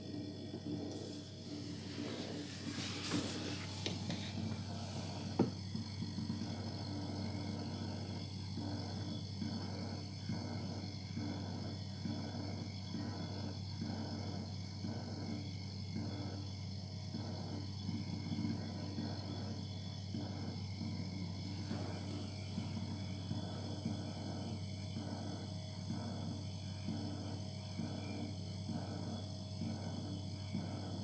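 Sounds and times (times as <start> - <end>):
refrigerator humming: 0.0 - 31.0.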